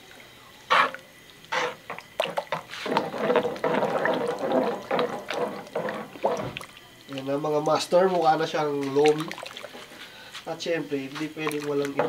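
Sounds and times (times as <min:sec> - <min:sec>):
liquid sloshing: 0:00.1 - 0:10.4, 0:11.0 - 0:12.0.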